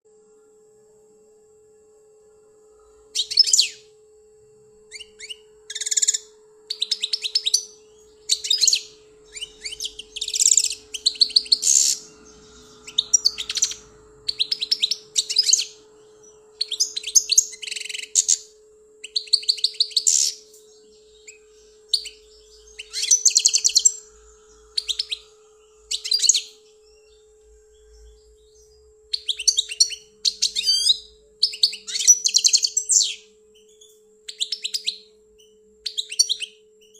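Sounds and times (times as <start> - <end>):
faint steady hum: 0.1 - 36.9
goldfinch twittering song: 3.2 - 3.9, 4.9 - 36.9.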